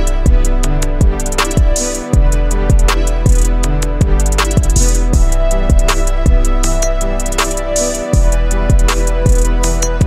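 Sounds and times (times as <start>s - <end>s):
fast hi-hats: 0.0s - 10.0s
trap instrumental beat: 0.0s - 10.0s.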